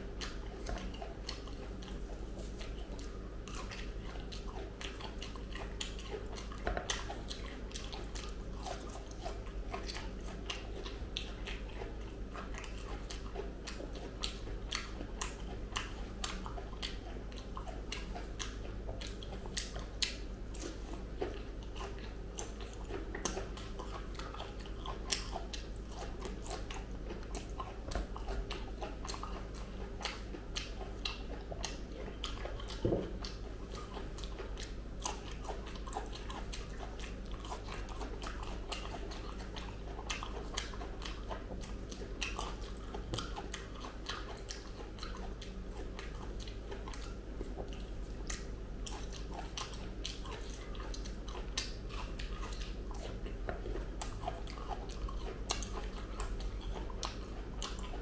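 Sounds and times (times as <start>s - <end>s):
chewing soft fruit: 0.0s - 58.0s
steady low hum: 0.0s - 58.0s.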